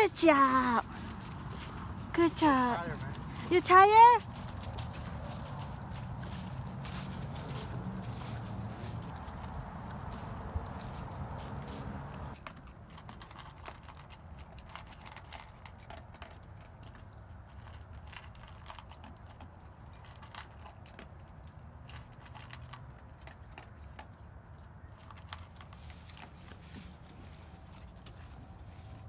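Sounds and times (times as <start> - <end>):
dog crunching dry kibble: 0.0 - 29.0.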